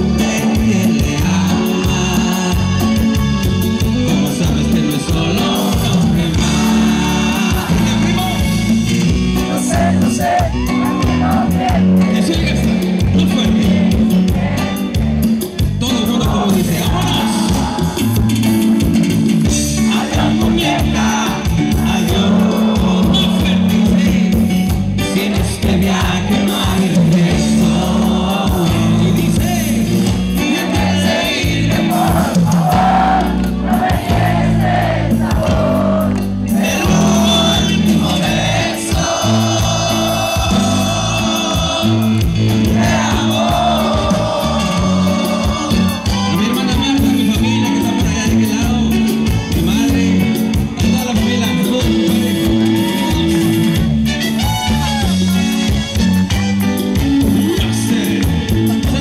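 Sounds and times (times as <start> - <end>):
live band playing: 0.0 - 59.0
man singing: 0.0 - 59.0.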